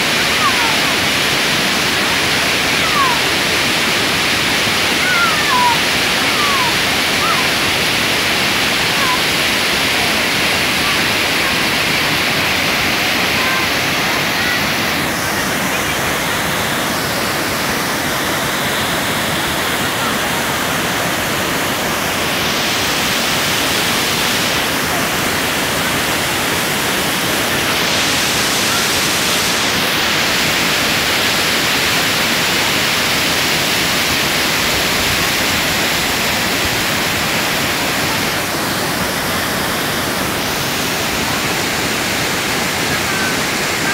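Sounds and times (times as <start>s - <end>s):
waterfall pouring onto rocks: 0.0s - 43.9s.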